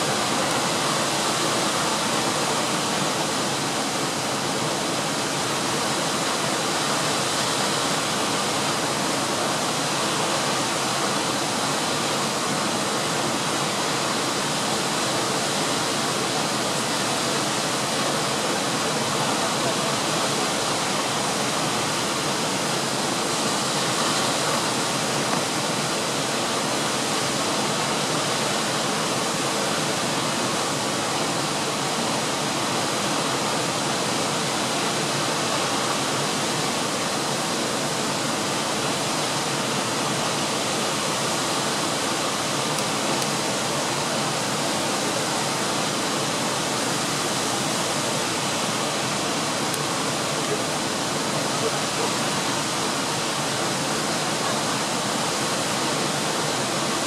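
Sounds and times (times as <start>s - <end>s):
waterfall rushing over rock: 0.0s - 57.0s.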